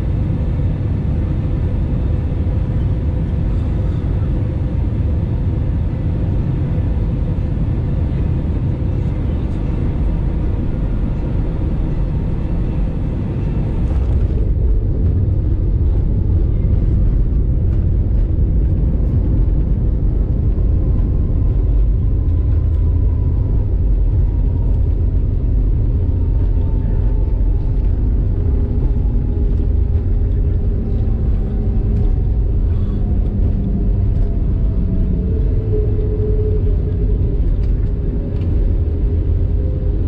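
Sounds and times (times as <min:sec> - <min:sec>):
aircraft cabin engine rumble: 0:00.0 - 0:40.0.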